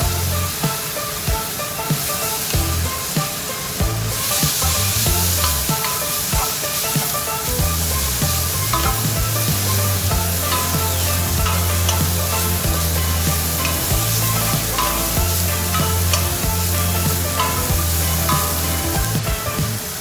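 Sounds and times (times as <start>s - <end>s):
background music with bass line: 0.0s - 20.0s
food sizzling in a hot pan: 0.1s - 20.0s
spatula scraping a pan: 2.0s - 19.2s.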